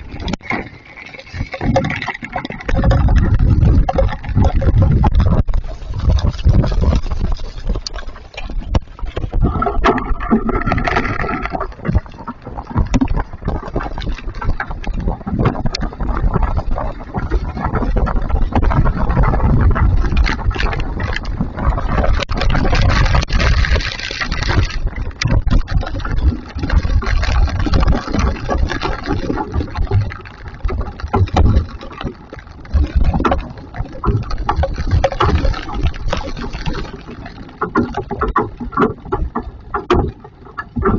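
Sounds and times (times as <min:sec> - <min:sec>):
hail and rain clattering: 0:00.0 - 0:40.1.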